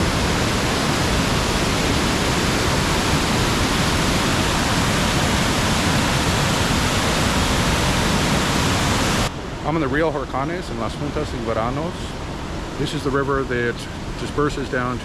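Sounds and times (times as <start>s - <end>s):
river water roaring: 0.0s - 15.0s.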